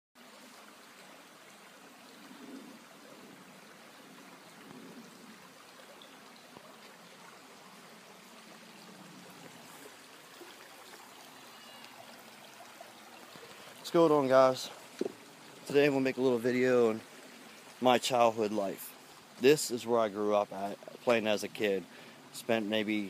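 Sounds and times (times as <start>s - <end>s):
creek water trickling over rocks: 0.2s - 23.0s.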